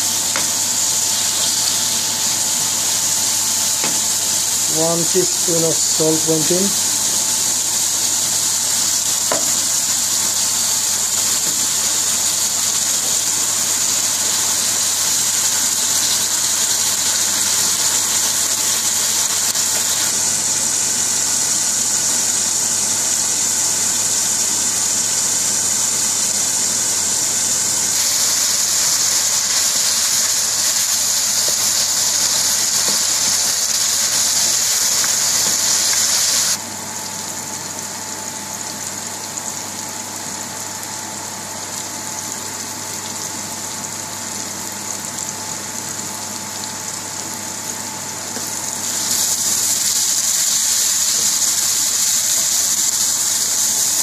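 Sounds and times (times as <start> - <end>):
onions sizzling in frying pan: 0.0 - 54.0.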